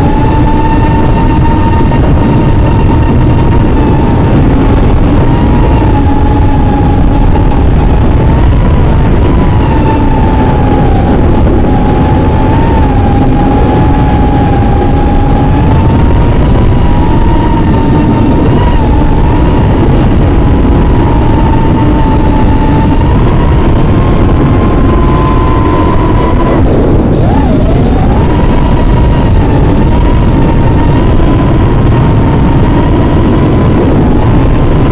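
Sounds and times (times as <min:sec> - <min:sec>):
drone motors whining: 0:00.0 - 0:34.9
loud steady rush of noise: 0:00.0 - 0:34.9.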